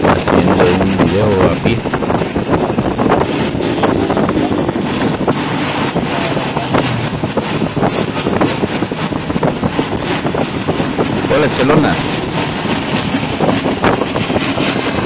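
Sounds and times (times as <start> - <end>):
bus cabin engine and road noise: 0.0 - 15.0.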